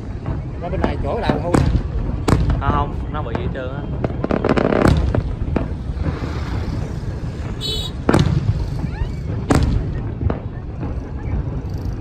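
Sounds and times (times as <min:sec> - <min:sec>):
fireworks bangs and booms: 0:00.0 - 0:12.0
low rumble: 0:00.0 - 0:12.0.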